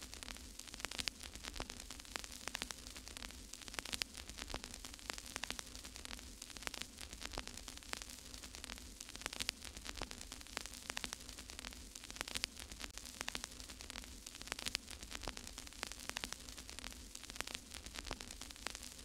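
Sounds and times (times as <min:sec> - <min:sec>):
static hiss with crackles: 0:00.0 - 0:19.0.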